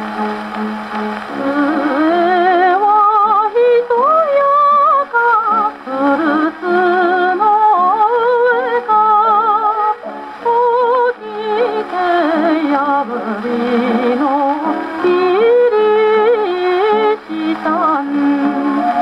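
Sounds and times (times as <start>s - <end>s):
gramophone playing popular song: 0.0s - 19.0s.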